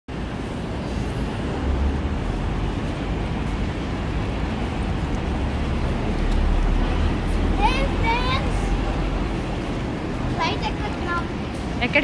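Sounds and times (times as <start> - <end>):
moving vehicle rumble: 0.1 - 12.0.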